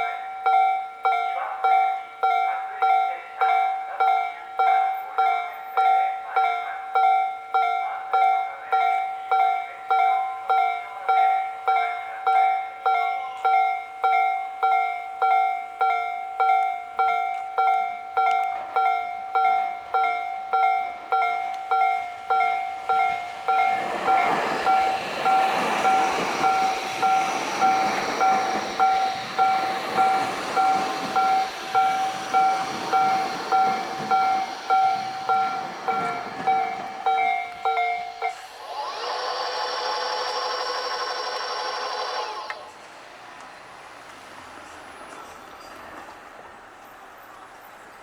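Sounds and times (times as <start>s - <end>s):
level crossing warning bell: 0.0s - 42.9s, 45.0s - 47.9s
electric train passing: 0.0s - 48.0s.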